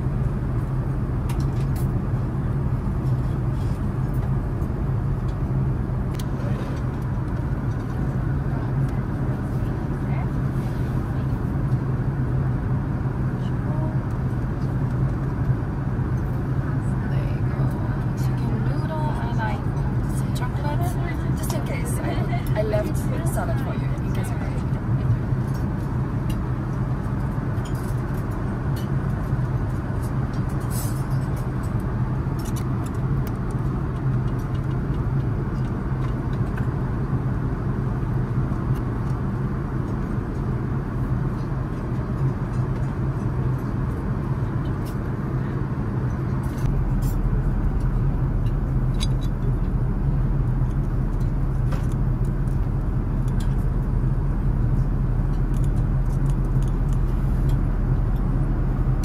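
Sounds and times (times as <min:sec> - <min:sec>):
airliner cabin noise: 0:00.0 - 0:59.0
deep rumble: 0:00.0 - 0:59.0.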